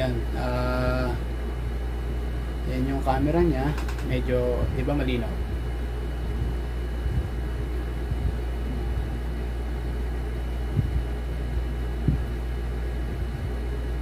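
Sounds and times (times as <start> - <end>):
low rumbling room hum: 0.0 - 14.0.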